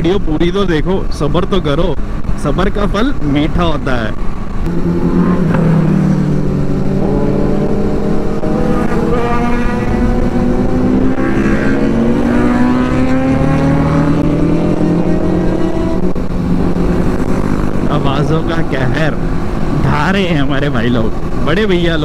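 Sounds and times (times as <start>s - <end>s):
motorcycle engines accelerating: 0.0s - 22.0s.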